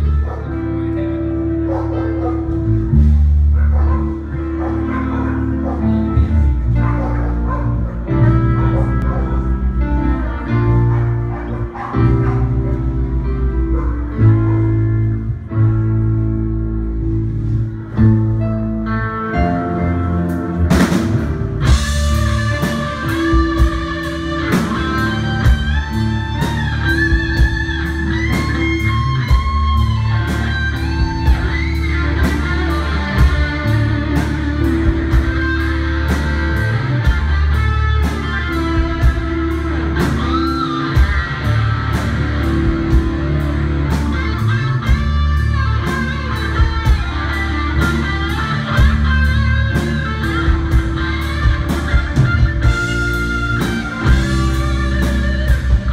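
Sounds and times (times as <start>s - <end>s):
electric guitar sliding notes: 0.0s - 55.9s
live rock band playing: 0.0s - 55.9s.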